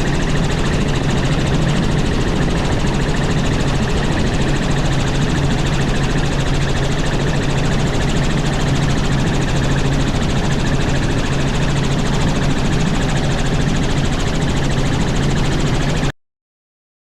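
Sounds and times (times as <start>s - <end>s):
helicopter engine and rotor: 0.0s - 16.2s.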